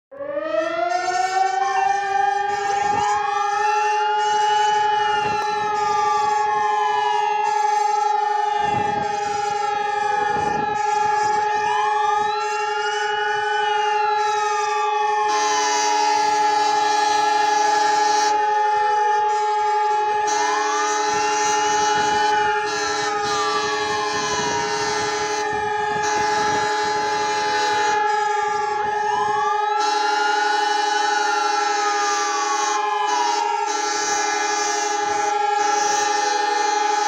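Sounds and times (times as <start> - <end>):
harsh loud siren tone: 0.1 - 37.0
steady siren tone: 0.1 - 37.0
wailing sirens: 0.1 - 37.0.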